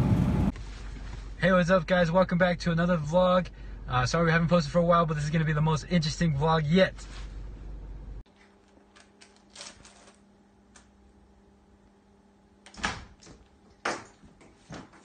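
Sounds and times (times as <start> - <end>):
steady low hum: 0.0 - 9.3, 10.0 - 13.8.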